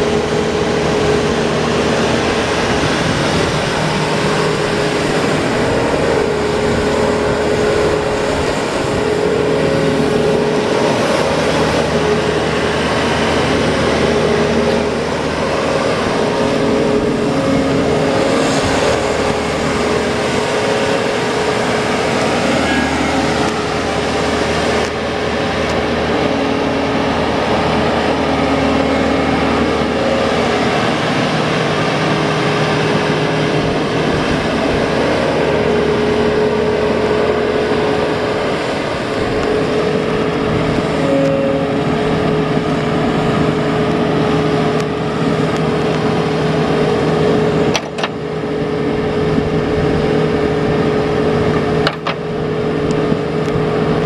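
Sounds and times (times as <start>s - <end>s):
mower diesel engine running: 0.0s - 54.0s
steady whine: 0.0s - 54.0s.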